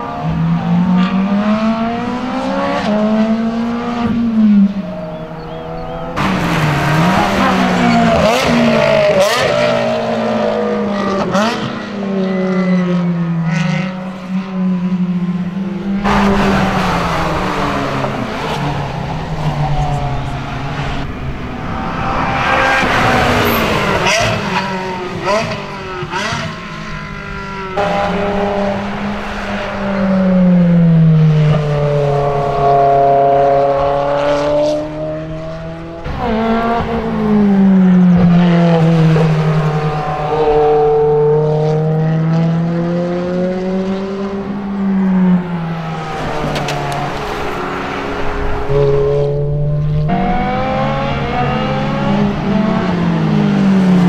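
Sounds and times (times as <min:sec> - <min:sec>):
car engine slowing and accelerating: 0:00.0 - 0:54.0
race cars passing: 0:00.0 - 0:54.0.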